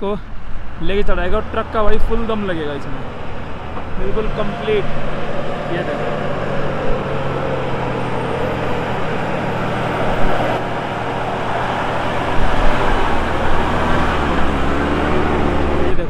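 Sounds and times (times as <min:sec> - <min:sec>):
truck diesel engine labouring: 0:00.0 - 0:16.0.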